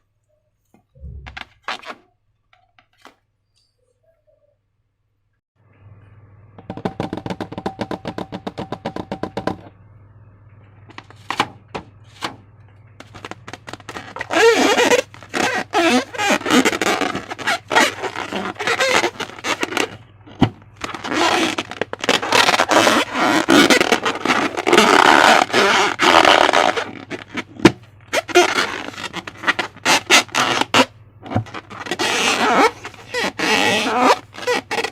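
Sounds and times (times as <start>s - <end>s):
steady low hum: 0.9s - 1.6s, 5.6s - 34.7s.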